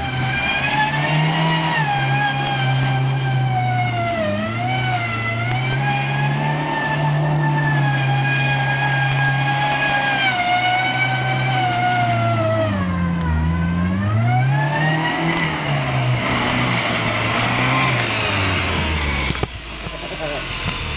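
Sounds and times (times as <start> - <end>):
car engine revving hard: 0.0 - 20.9.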